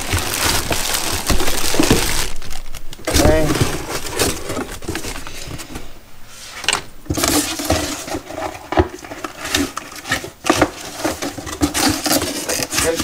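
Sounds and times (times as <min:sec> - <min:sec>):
cardboard packaging crackling and rustling: 0:00.0 - 0:06.0, 0:07.1 - 0:13.0.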